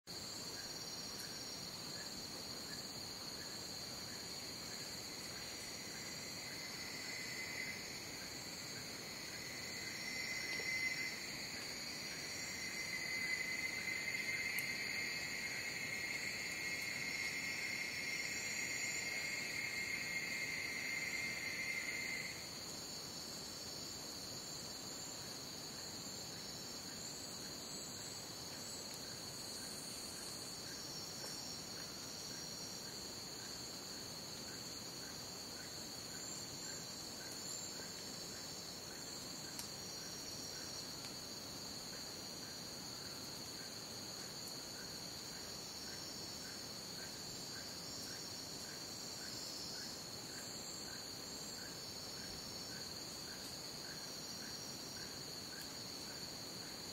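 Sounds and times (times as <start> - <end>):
crickets trilling: 0.1 - 56.9.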